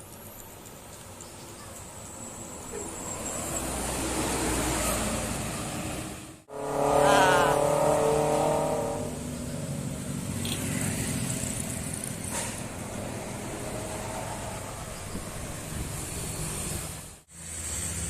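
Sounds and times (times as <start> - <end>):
bus engine running: 0.0 - 18.0
traffic noise: 0.0 - 18.0.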